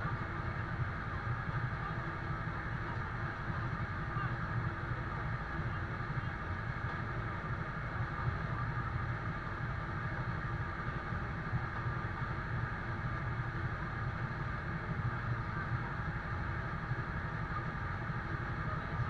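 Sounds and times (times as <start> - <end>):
diesel fire truck engine humming: 0.0 - 19.0.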